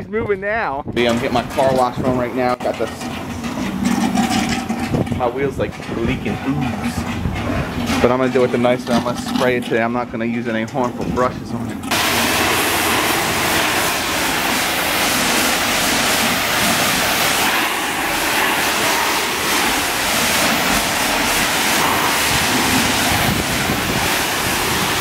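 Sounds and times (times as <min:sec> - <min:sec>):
high-pressure water spray: 0:01.0 - 0:09.6, 0:11.8 - 0:25.0.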